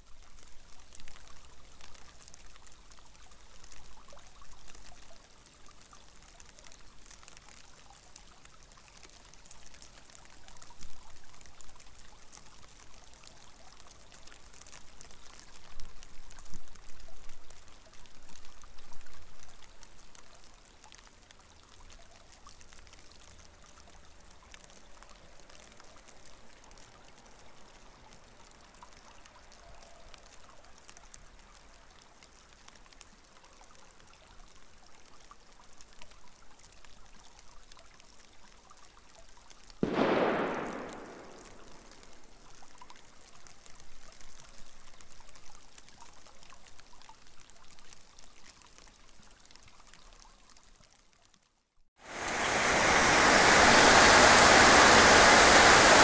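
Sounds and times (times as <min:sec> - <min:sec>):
rain falling: 0:00.0 - 0:50.7, 0:52.0 - 0:56.0.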